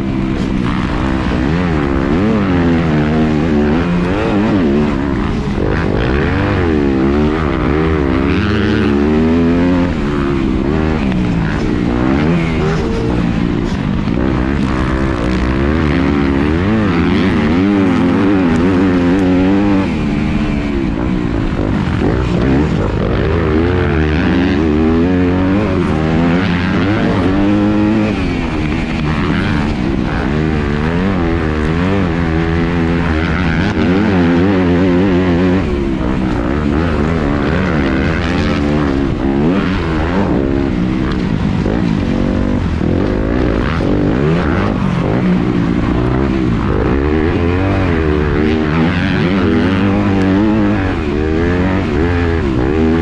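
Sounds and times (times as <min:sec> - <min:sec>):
motorbike engine revving: 0:00.0 - 0:53.0
wind and dirt rush: 0:00.0 - 0:53.0.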